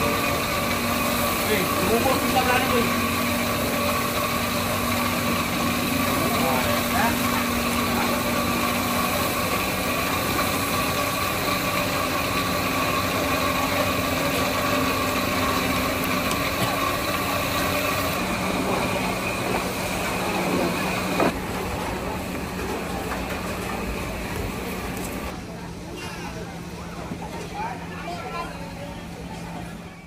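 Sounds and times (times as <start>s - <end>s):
mechanical hum with tones: 0.0s - 30.0s.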